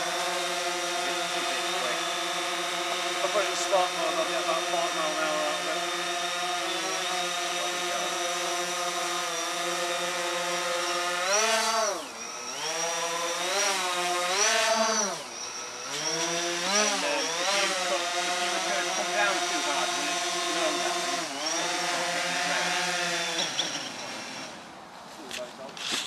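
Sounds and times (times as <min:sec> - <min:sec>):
drone propellers buzzing: 0:00.0 - 0:24.8.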